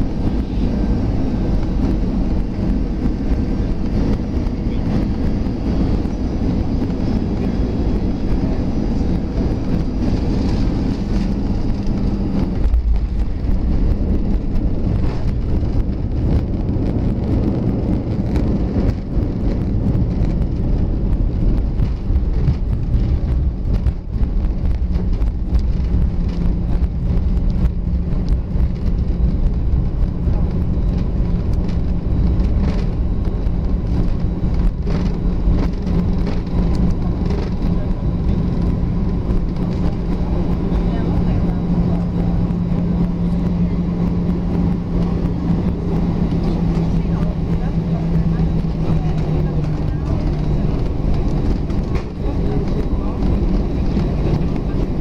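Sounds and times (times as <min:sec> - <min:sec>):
aircraft engines and wheels rumbling: 0:00.0 - 0:55.0
steady cabin hum: 0:00.0 - 0:55.0.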